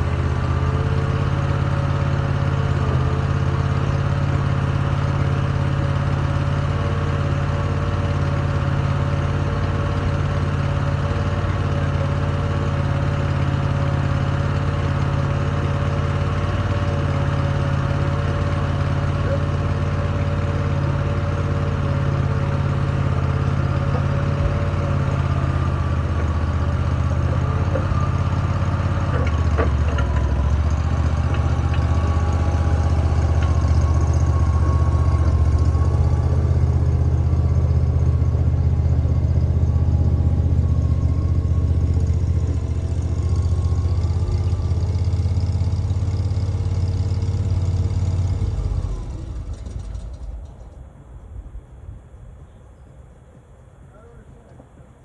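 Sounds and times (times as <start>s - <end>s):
large engine idling: 0.0s - 55.0s.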